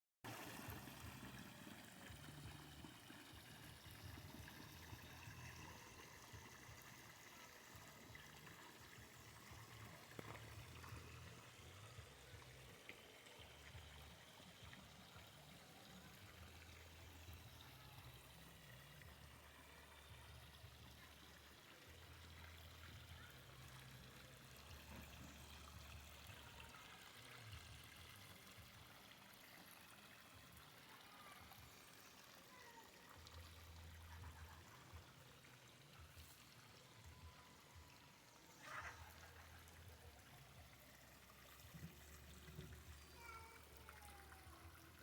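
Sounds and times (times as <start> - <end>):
water trickling into pond: 0.3 - 45.0.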